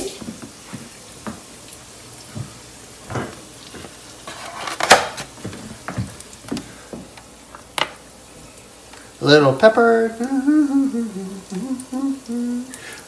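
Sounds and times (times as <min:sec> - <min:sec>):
eggs sizzling in a frying pan: 0:00.0 - 0:13.0.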